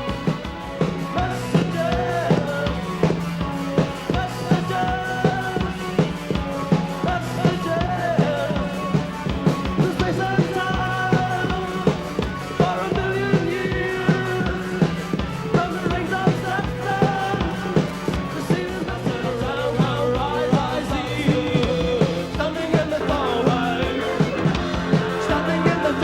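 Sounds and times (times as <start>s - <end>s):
drum kit beat: 0.0s - 26.0s
rock band playing live: 0.0s - 26.0s.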